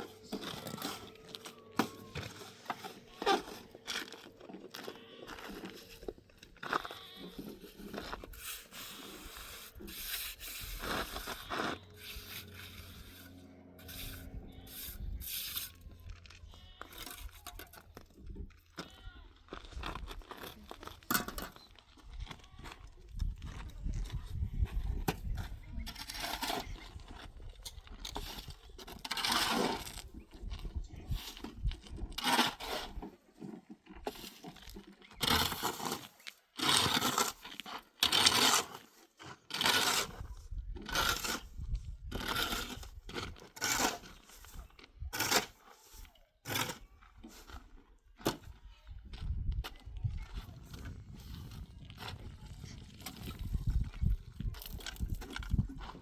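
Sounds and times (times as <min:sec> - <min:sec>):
rough scraping on gritty surface: 0:00.0 - 0:56.0.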